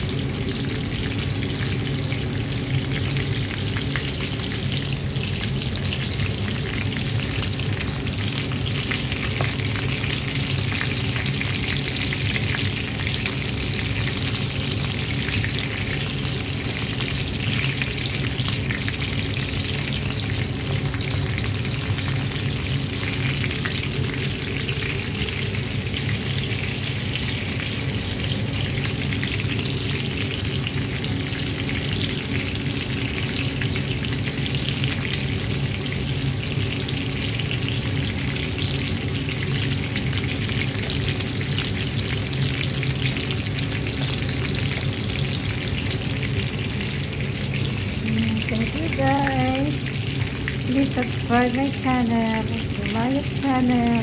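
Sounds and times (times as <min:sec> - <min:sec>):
chicken frying in oil: 0:00.0 - 0:54.0.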